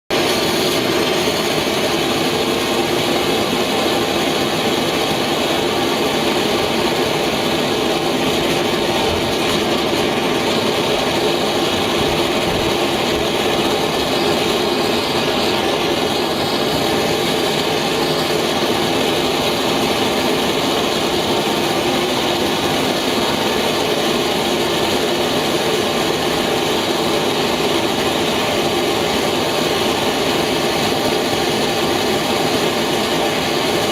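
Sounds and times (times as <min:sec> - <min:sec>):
rocket engine firing: 0:00.2 - 0:33.9.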